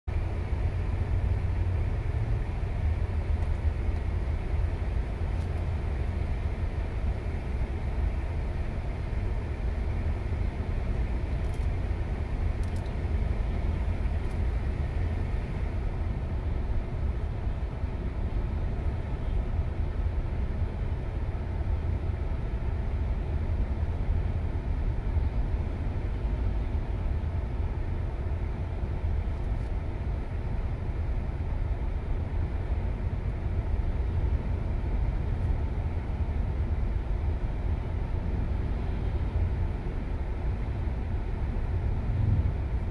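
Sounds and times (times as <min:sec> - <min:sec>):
car road noise: 0:00.1 - 0:42.9.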